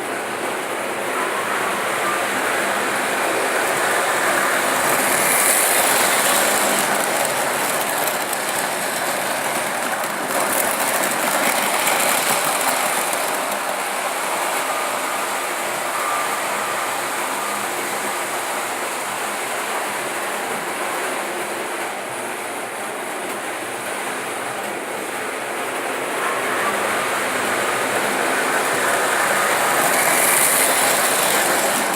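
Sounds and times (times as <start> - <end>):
model train running on track: 0.0 - 31.9.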